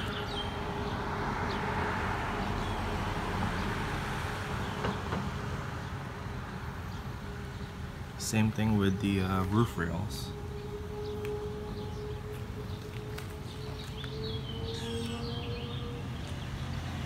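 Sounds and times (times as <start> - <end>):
steady traffic rumble: 0.0 - 17.0
vehicle passing: 0.0 - 17.0.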